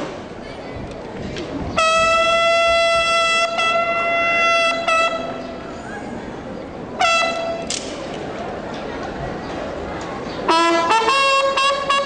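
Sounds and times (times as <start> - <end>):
outdoor crowd noise: 0.0 - 12.0.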